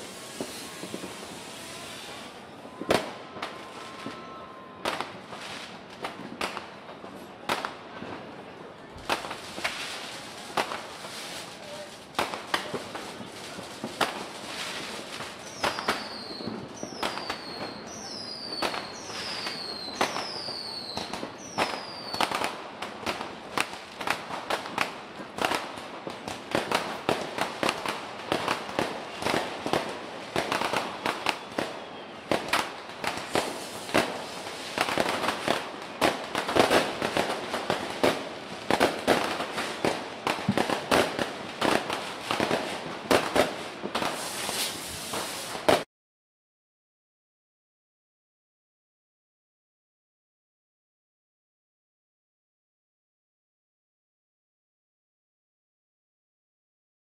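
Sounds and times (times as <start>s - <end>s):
fireworks banging and cracking: 0.0s - 45.9s
whistling fireworks: 0.0s - 45.9s.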